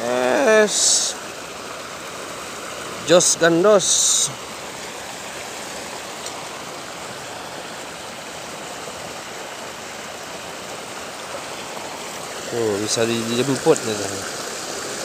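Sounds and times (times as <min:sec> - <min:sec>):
water rushing in a channel: 0:00.0 - 0:15.0.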